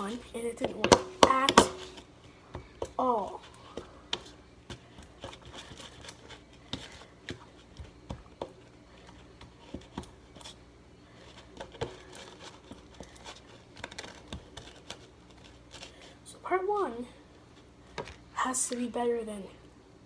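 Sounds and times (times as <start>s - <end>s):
utensil stirring slime in bowl: 0.0s - 16.3s
faint low hum: 0.0s - 20.0s.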